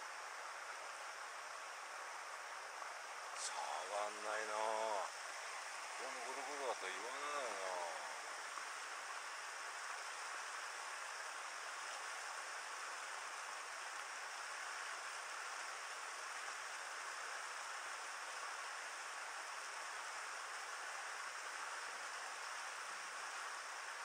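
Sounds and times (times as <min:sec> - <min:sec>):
river rapids rushing over boulders: 0:00.0 - 0:24.0.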